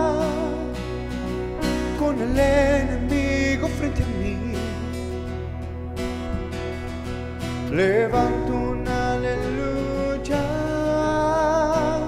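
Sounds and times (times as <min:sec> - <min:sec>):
acoustic guitar strumming: 0:00.0 - 0:12.0
bass guitar: 0:00.0 - 0:12.0
held keyboard chords: 0:00.0 - 0:12.0.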